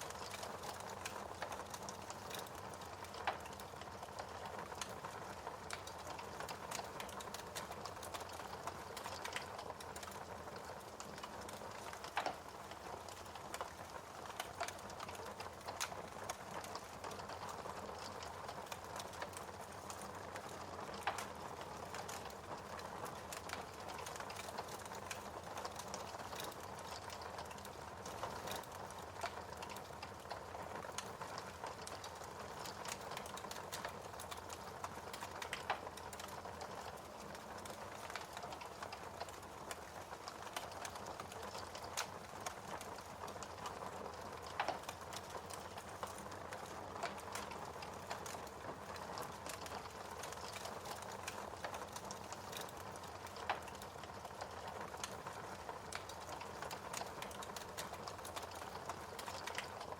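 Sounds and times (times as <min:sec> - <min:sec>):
fireplace fire crackling and popping: 0:00.0 - 0:59.9.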